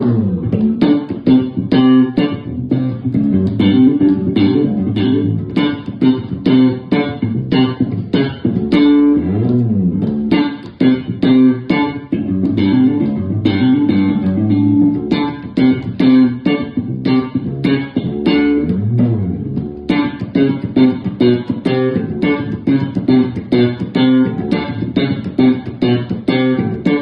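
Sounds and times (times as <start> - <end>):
bass guitar plucked notes: 0.0 - 27.0.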